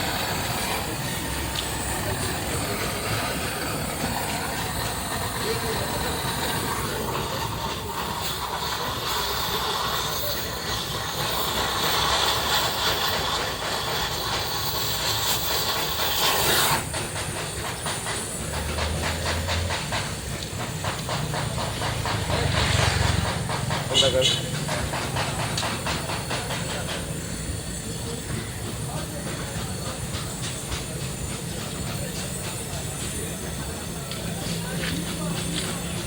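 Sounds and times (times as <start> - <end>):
welding torch flame hissing: 0.0 - 36.0.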